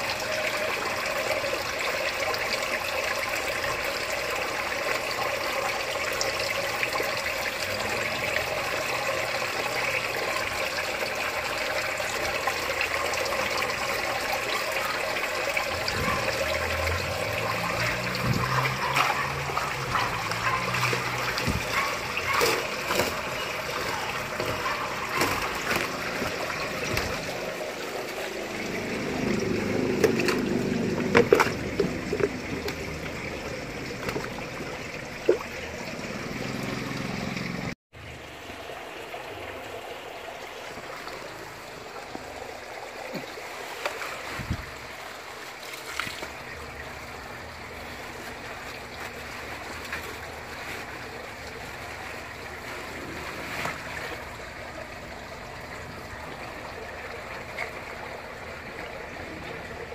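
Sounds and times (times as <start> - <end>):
fish splashing in a tank: 0.0 - 59.9.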